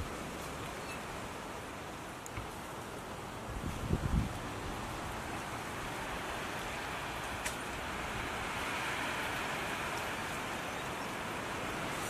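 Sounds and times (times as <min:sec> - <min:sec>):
steady rushing outdoor noise: 0:00.0 - 0:12.0.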